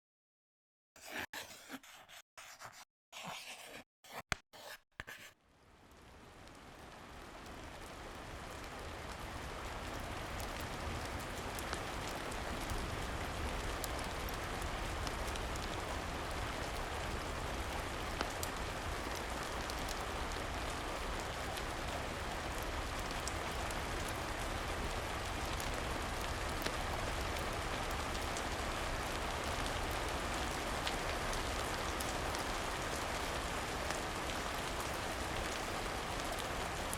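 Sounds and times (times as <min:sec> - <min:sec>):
steady rain: 0:05.4 - 0:36.9
wood fire crackling: 0:05.7 - 0:36.9.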